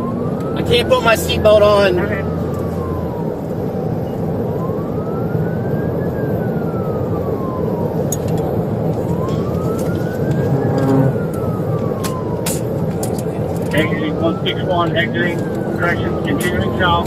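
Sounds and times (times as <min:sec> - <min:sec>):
car driving at speed: 0:00.0 - 0:17.0
police siren wailing: 0:00.0 - 0:17.0.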